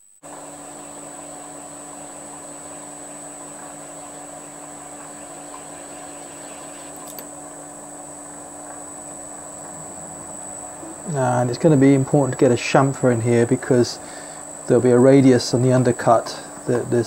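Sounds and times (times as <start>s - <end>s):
metal lathe humming and whining: 0.3s - 17.0s.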